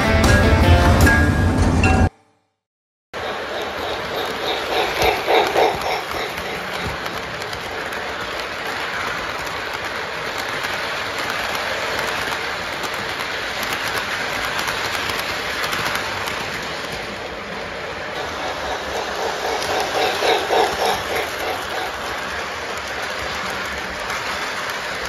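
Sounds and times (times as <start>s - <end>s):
clicking at rail joints: 3.2s - 25.0s
model train rolling on track: 3.2s - 25.0s.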